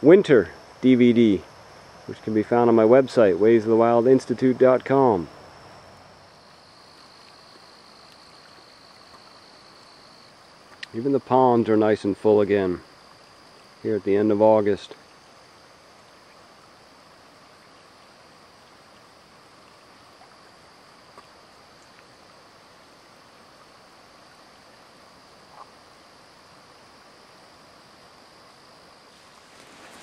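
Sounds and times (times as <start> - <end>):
faint insect chorus: 0.0 - 30.0
low hiss: 0.0 - 30.0.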